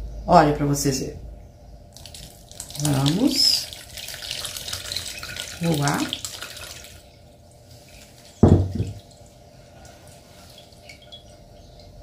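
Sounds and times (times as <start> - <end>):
faint drips: 1.9 - 12.0
liquid pouring through a sieve: 1.9 - 12.0.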